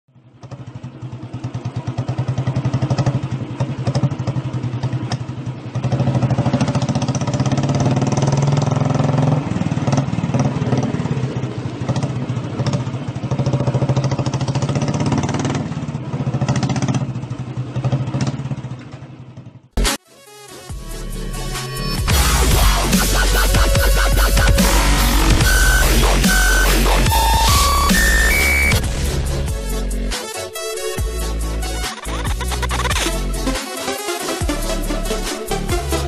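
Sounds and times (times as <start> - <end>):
motorcycle engine revving: 0.2 - 19.8, 21.4 - 36.0.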